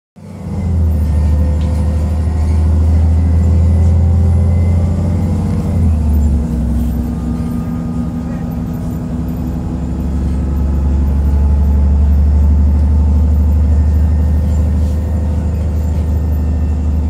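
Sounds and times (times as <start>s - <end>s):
bus diesel engine rumble: 0.2s - 17.0s.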